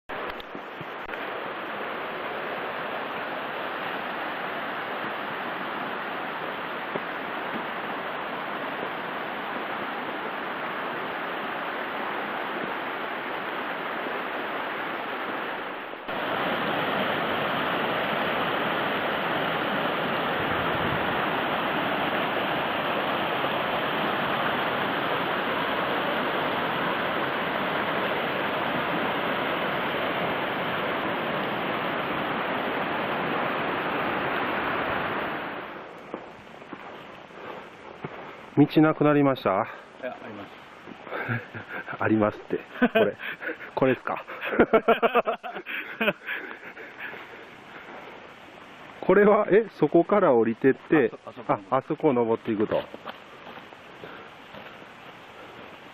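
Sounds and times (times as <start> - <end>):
flowing water rushing: 0.1 - 55.9.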